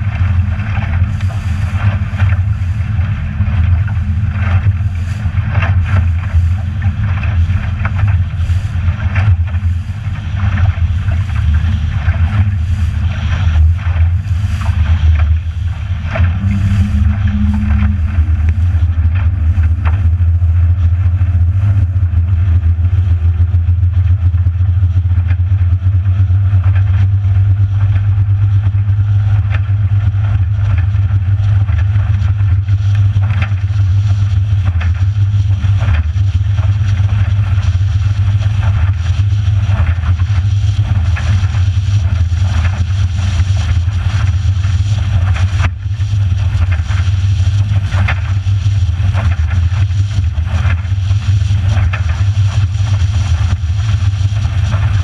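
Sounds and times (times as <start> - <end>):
hull knocking and splashing: 0.0 - 55.0
motorboat engine drone: 0.0 - 55.0.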